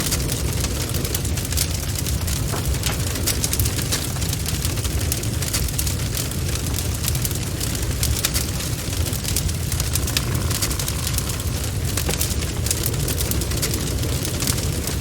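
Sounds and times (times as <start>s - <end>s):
bonfire flames rumbling: 0.0s - 15.0s
burning wood crackling and popping: 0.0s - 15.0s.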